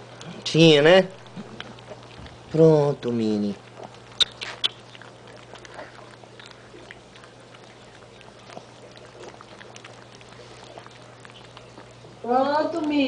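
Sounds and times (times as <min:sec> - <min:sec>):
dog licking wet clicks: 0:01.2 - 0:13.0.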